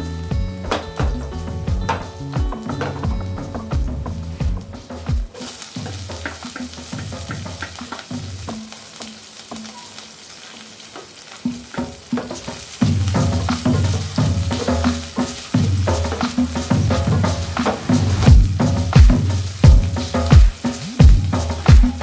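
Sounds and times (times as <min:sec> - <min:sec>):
hot oil sizzling in a pan: 0:00.0 - 0:22.0.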